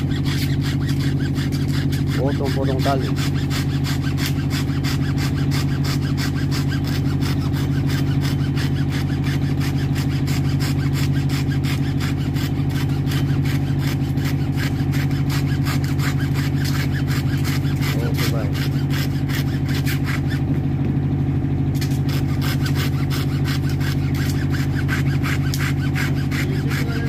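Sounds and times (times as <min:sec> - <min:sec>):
hacksaw sawing through rope: 0:00.0 - 0:27.0
low engine hum: 0:00.0 - 0:27.0.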